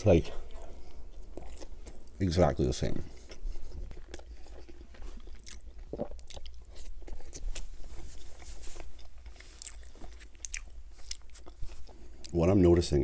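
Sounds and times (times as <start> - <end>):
close chewing mouth sounds: 0.3 - 12.4.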